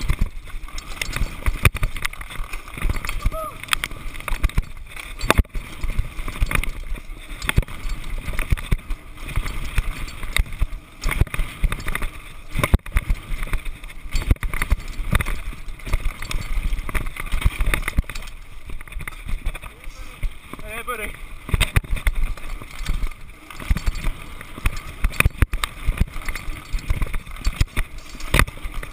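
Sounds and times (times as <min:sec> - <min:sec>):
bike rattling over bumps: 0:00.0 - 0:28.9
bike tyres on gravel: 0:00.0 - 0:28.9.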